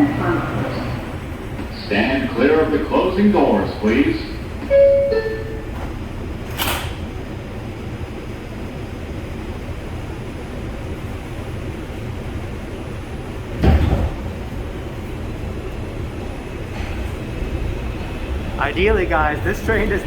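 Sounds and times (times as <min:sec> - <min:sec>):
subway car wheels rumbling: 0:00.0 - 0:20.0.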